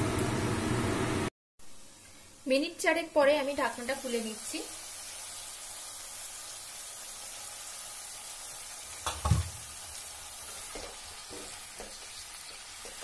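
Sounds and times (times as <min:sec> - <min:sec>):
vegetables sizzling in pan: 0:00.0 - 0:13.0.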